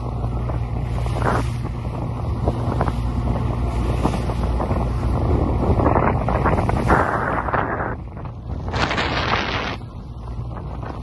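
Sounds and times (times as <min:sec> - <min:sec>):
low fire rumble: 0:00.0 - 0:11.0.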